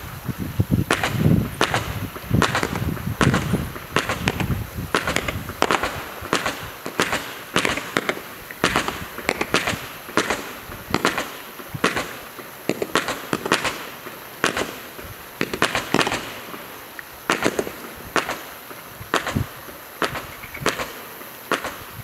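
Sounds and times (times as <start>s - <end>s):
fireworks banging: 0.0s - 22.0s
fireworks hissing: 0.0s - 22.0s.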